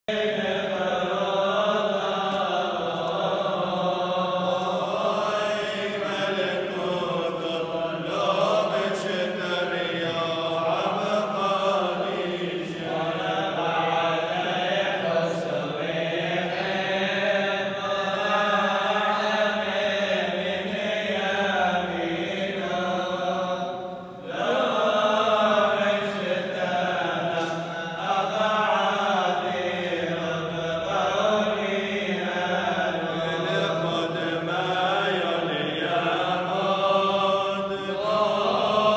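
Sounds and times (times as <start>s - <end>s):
men chanting: 0.1s - 38.9s.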